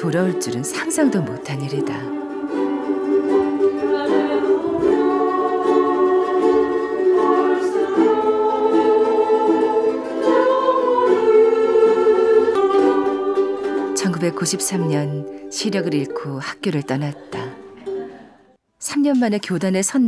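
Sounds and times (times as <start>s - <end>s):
strummed ukuleles: 0.0s - 18.5s
women singing together: 0.0s - 18.5s.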